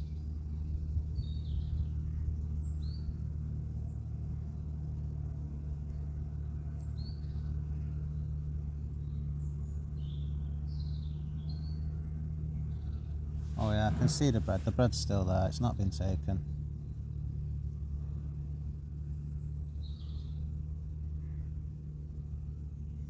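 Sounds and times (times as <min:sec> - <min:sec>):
small birds chirping: 0:00.0 - 0:23.0
steady low mechanical hum: 0:00.0 - 0:23.0.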